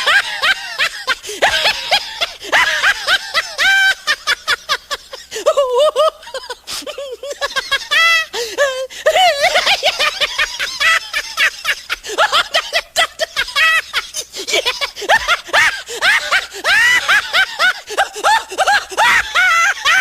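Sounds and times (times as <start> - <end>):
high-pitched laughter: 0.0 - 20.0.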